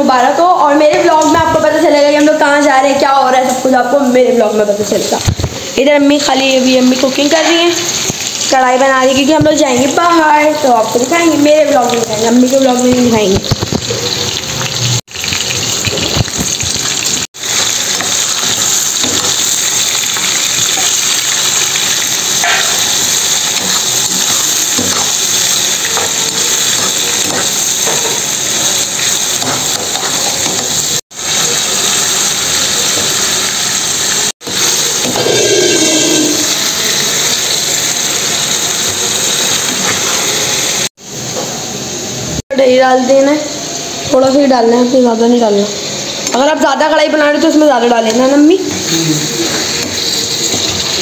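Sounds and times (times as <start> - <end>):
oil sizzling in a frying pan: 0.0 - 51.0.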